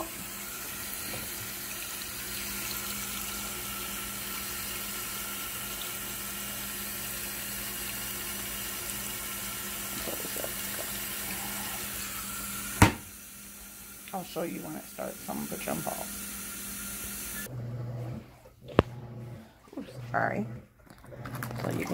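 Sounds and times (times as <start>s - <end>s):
water pouring into washing machine: 0.0s - 18.2s, 21.1s - 21.9s.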